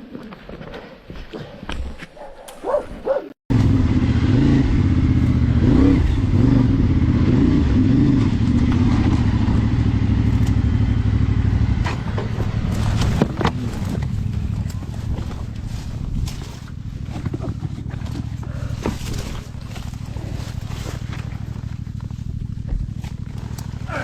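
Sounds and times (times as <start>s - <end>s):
motorcycle engine running: 3.5s - 24.0s.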